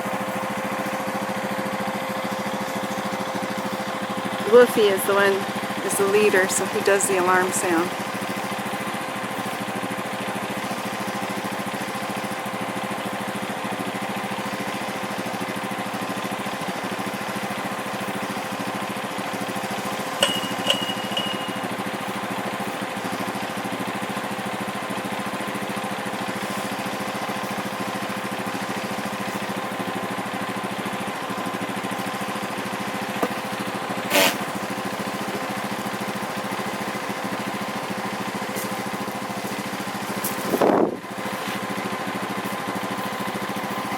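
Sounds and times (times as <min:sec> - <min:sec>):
vehicle engine idling: 0:00.0 - 0:43.9.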